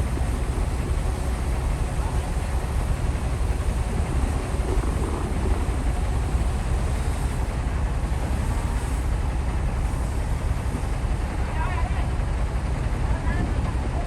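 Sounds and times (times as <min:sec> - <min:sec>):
bulldozer diesel engine rumbling: 0:00.0 - 0:14.0.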